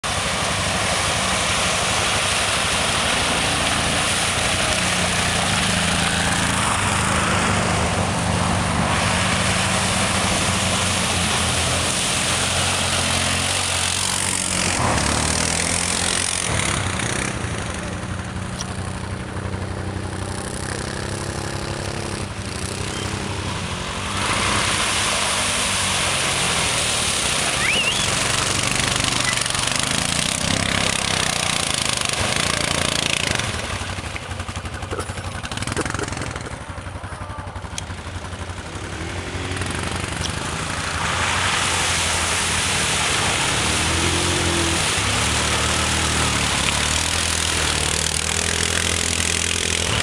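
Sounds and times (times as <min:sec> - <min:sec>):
atv engines running: 0:00.0 - 0:50.0.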